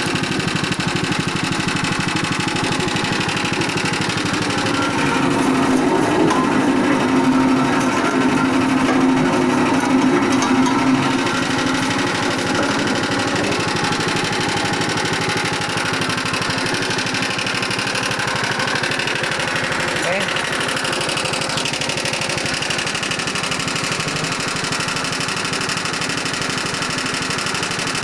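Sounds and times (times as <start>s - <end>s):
press machine rattling: 0.1s - 28.0s
strong hum: 0.6s - 25.1s.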